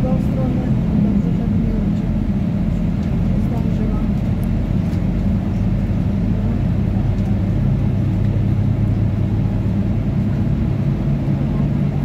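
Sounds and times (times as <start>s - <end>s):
air conditioning running: 0.0s - 12.0s
bus engine drone: 0.0s - 12.0s.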